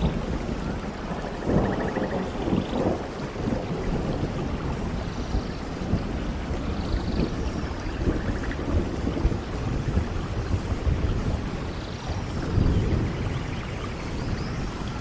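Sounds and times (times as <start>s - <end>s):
heavy rain: 0.0s - 15.0s
thunder rumble: 0.0s - 15.0s.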